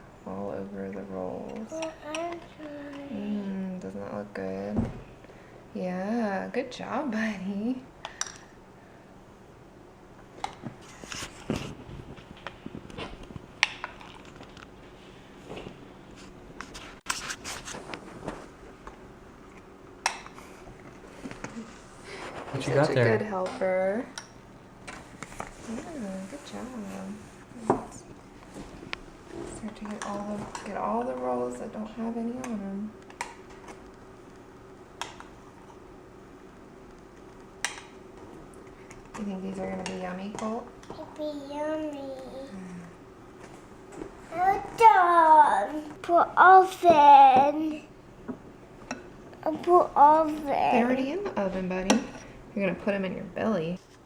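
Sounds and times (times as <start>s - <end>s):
faint hum: 0.0s - 54.0s.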